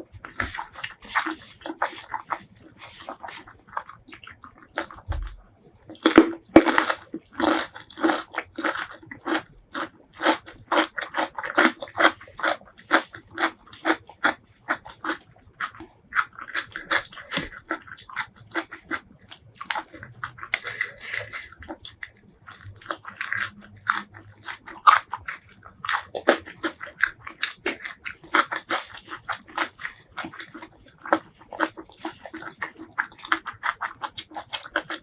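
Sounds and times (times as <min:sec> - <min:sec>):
close-miked chewing and mouth clicks: 0:00.0 - 0:35.0.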